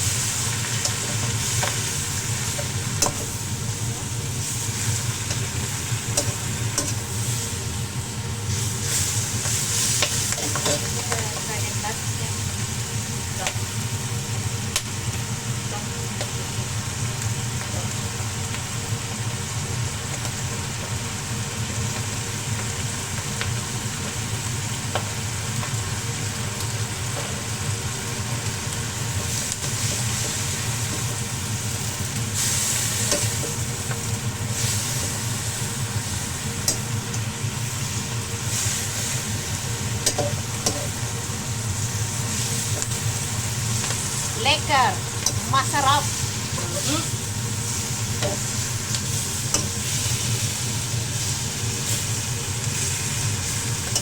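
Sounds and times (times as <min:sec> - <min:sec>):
food sizzling in a hot pan: 0:00.0 - 0:54.0.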